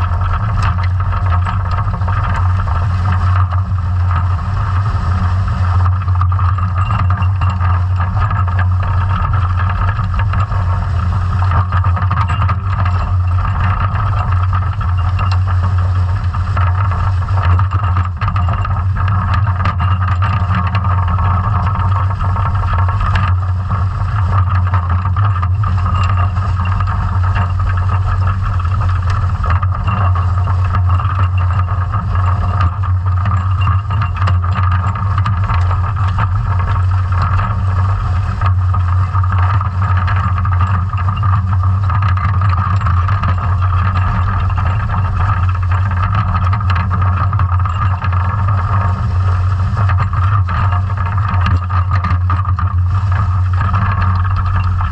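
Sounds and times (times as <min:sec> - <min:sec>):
small clicks: 0:00.0 - 0:54.9
underwater dredge rumble: 0:00.0 - 0:54.9.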